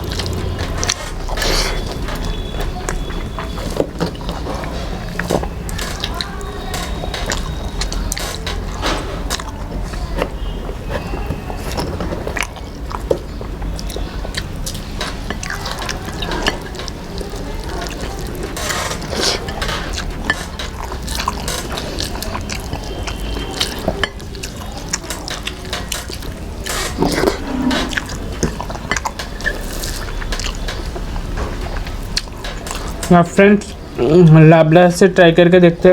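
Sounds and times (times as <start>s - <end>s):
person chewing wetly: 0.0s - 33.0s.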